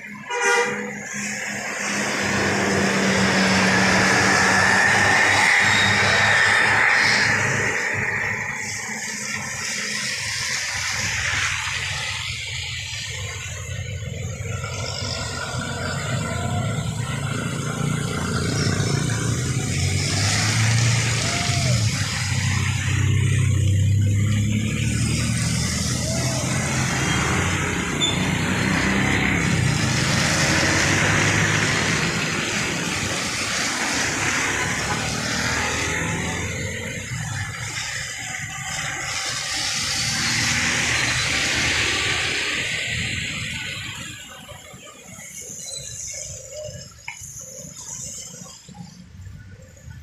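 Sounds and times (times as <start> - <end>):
tyres hissing on wet road: 0.0 - 50.0
vehicle engines passing: 0.0 - 50.0.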